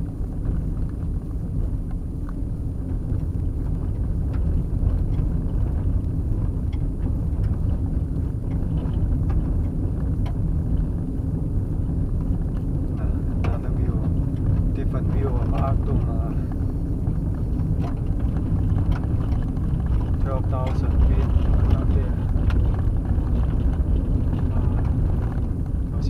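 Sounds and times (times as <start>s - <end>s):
gravel ticks and rattles: 0.0s - 26.0s
tyres and engine rumbling: 0.0s - 26.0s.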